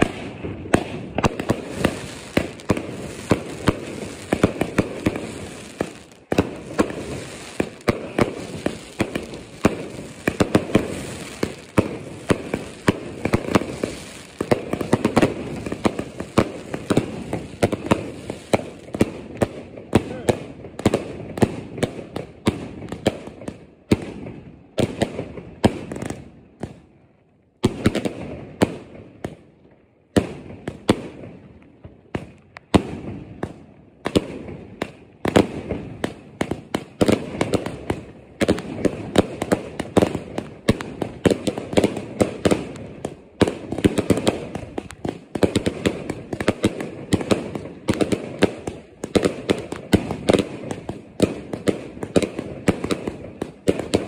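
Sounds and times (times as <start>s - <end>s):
fireworks banging: 0.0s - 26.8s, 32.1s - 54.0s.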